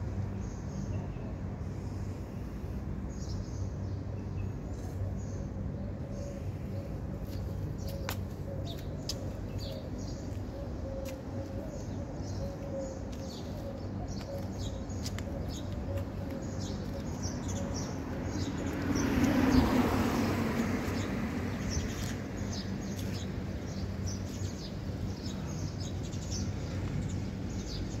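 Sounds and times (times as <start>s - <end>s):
small birds chirping: 3.1s - 28.0s.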